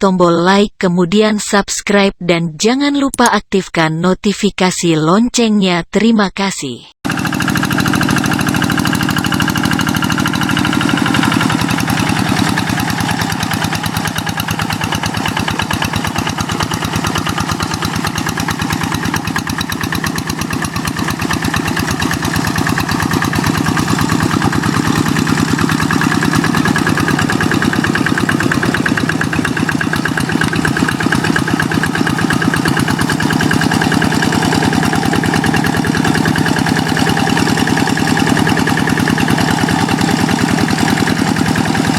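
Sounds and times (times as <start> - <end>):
diesel engine knocking: 7.0 - 41.9.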